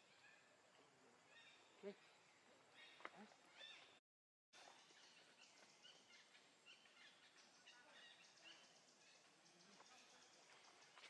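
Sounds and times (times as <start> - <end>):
faint forest ambience: 0.0 - 4.0, 4.6 - 11.0.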